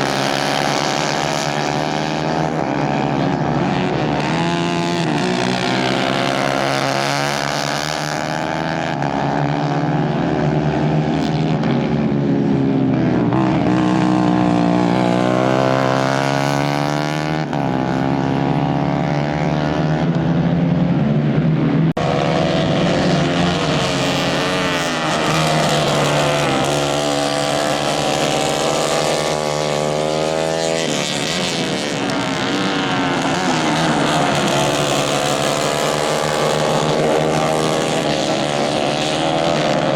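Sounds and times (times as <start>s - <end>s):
racing kart engines revving: 0.0s - 39.9s.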